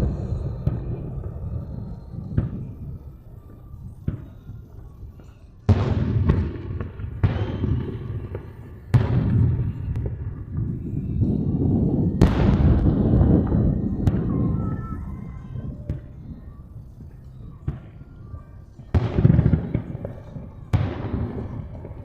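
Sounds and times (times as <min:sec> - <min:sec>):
fireworks bursting with rumbling echo: 0:00.0 - 0:22.0.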